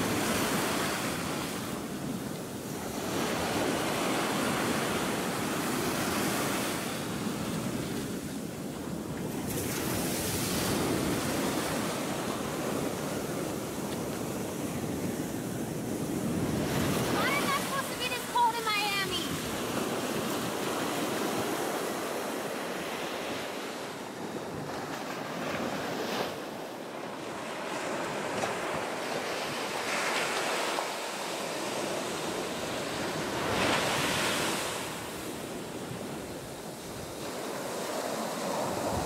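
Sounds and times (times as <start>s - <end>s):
ocean surf breaking on beach: 0.0s - 39.0s.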